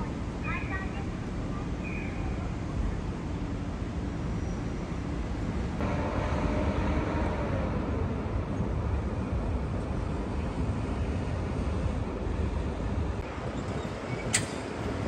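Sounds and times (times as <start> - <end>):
city traffic noise: 0.0 - 15.0.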